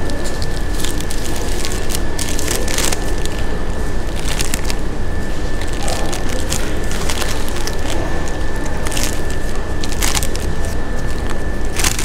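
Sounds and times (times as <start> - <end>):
paper wrapper crinkling: 0.0 - 12.0
steady low hum: 0.0 - 12.0.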